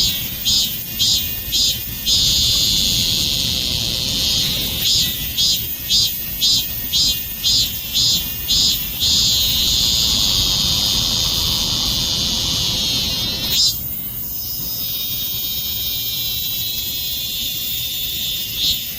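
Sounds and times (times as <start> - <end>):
cicada buzzing: 0.0 - 18.9.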